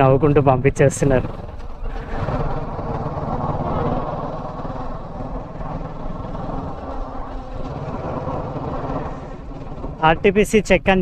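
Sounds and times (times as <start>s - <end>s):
road and wind noise: 0.0s - 11.0s
motorcycle engine running: 1.0s - 10.7s.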